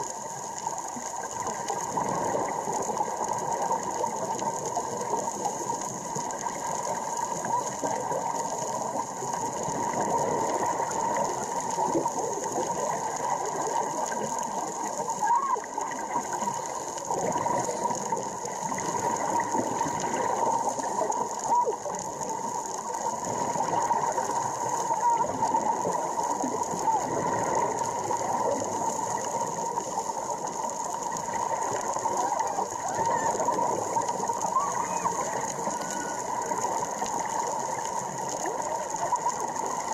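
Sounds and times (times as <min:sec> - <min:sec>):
underwater crackle: 0:00.0 - 0:39.9.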